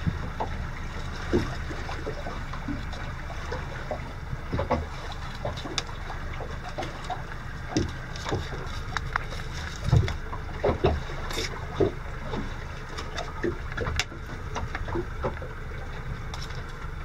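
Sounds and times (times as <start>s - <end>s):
boat engine rumble: 0.0s - 17.0s
water lapping at hull: 0.0s - 17.0s.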